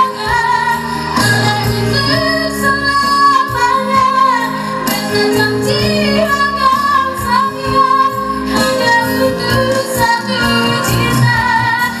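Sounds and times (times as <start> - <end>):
woman singing song with beat: 0.0 - 12.0.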